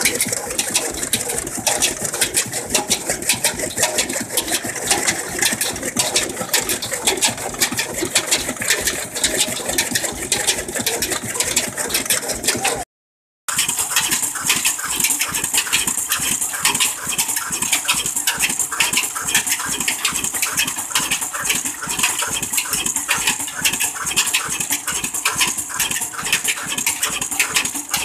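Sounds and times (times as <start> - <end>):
diesel engine clattering: 0.0 - 12.8, 13.5 - 28.0.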